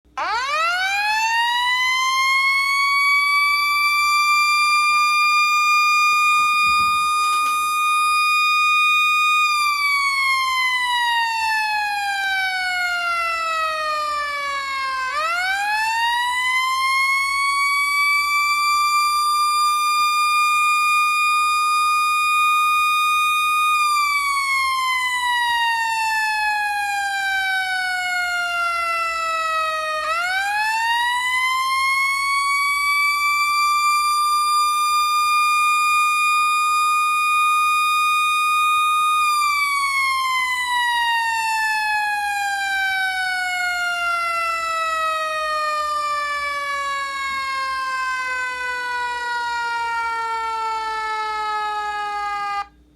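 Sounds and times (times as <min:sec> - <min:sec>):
fire truck siren wailing: 0:00.0 - 0:52.9.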